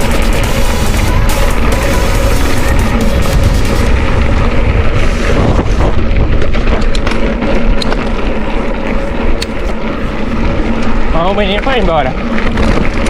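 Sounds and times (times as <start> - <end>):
road noise: 0.0 - 13.0
wind buffeting the microphone: 0.0 - 13.0.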